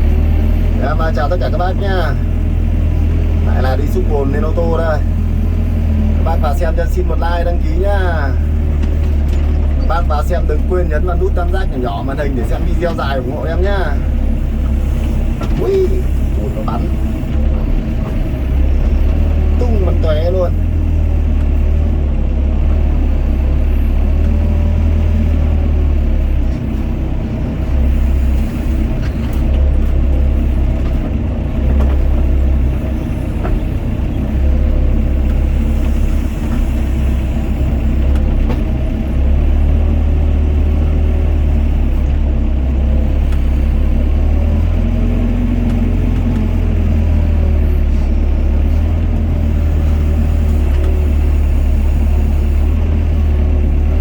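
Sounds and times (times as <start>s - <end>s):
excavator diesel engine rumbling: 0.0s - 54.0s.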